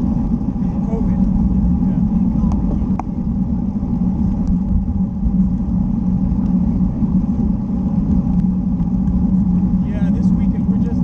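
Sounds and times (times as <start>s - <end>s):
tyre noise on asphalt: 0.0s - 10.9s
wind rumble on microphone: 0.0s - 11.0s.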